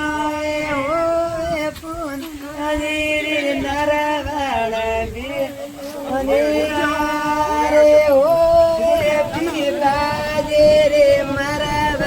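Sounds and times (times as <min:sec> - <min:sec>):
solo voice singing: 0:00.0 - 0:12.0.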